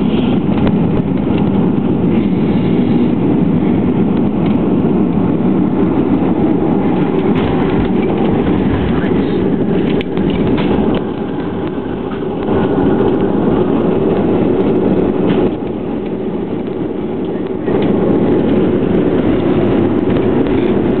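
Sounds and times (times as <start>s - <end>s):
jet engines rumbling: 0.0s - 21.0s
wheels rumbling on runway: 0.0s - 21.0s.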